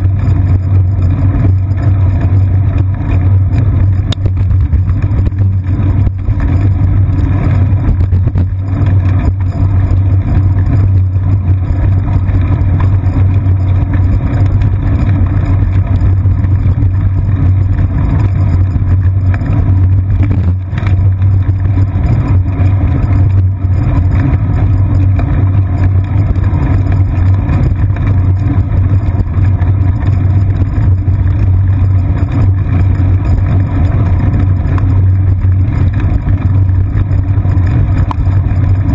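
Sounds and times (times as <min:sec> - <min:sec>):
bicycle rolling over pavement: 0:00.0 - 0:38.9.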